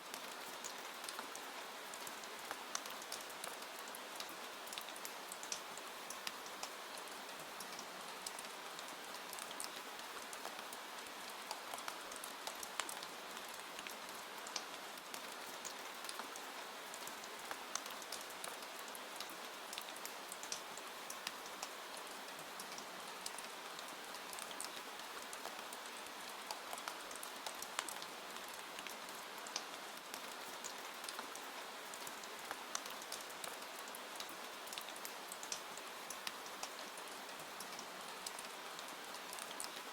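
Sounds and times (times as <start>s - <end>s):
steady rain falling: 0.0s - 39.9s
raindrops ticking close by: 0.1s - 39.9s.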